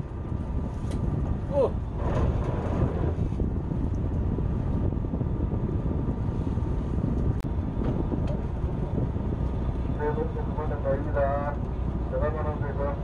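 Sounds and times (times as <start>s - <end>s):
boat engine hum: 0.0s - 13.0s
wind buffeting microphone: 0.0s - 13.0s.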